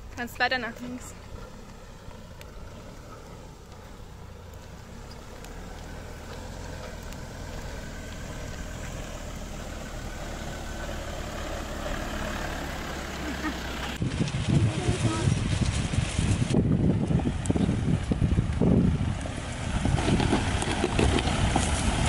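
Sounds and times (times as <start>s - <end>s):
pickup engine on gravel track: 0.0s - 22.0s.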